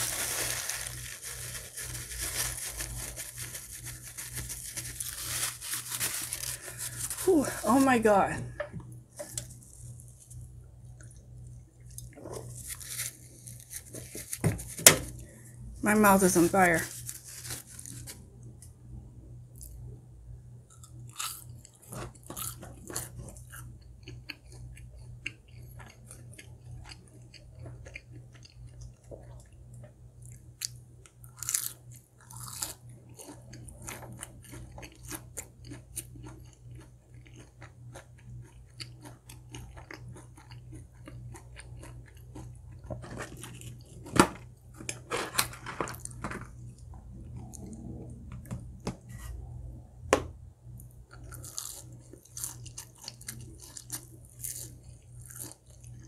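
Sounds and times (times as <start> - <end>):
crunching and chewing fried food: 0.0 - 18.6, 19.5 - 49.5, 50.6 - 56.0.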